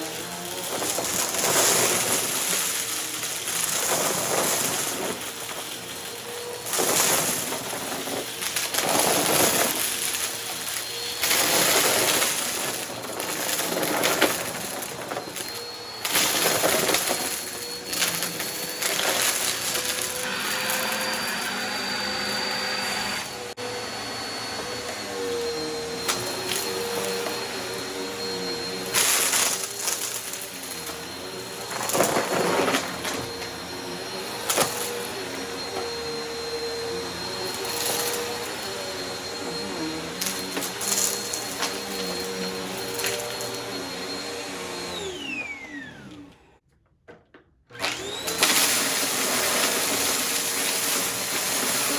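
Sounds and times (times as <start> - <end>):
debris crunching in vacuum: 0.0 - 45.3, 47.9 - 51.9
vacuum cleaner motor whine: 0.0 - 46.6, 47.7 - 51.9.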